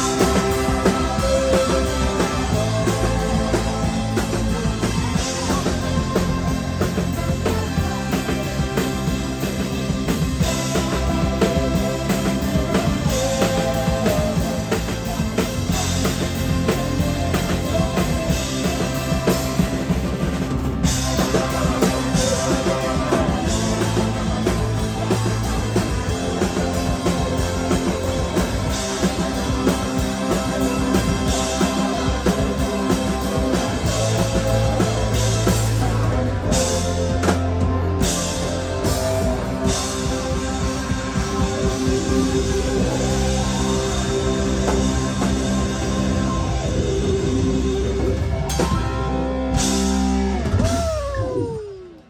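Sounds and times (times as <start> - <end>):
horn section: 0.0 - 48.5
bass guitar: 0.0 - 52.0
drum kit: 0.0 - 52.0
electric guitar: 0.0 - 52.0.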